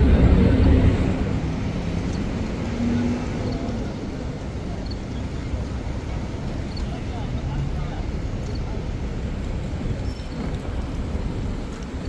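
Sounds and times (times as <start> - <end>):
faint street bustle: 0.0 - 12.0
vehicles rumbling past: 0.0 - 12.0.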